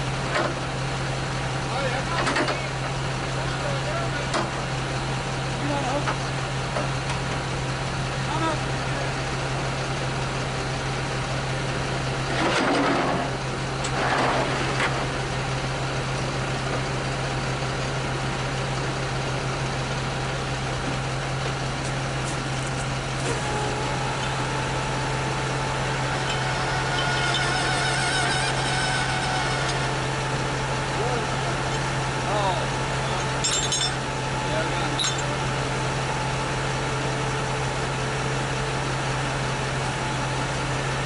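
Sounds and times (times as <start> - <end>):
engine idling: 0.0 - 41.0.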